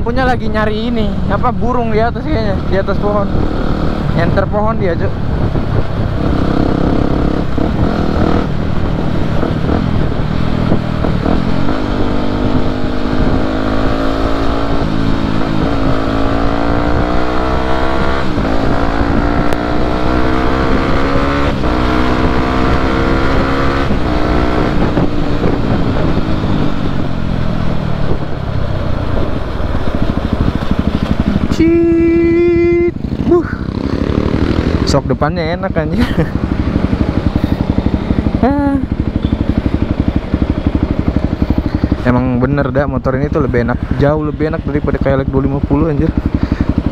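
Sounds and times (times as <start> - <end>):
motorcycle engine accelerating: 0.0 - 46.9
wind rush over microphone: 0.0 - 46.9.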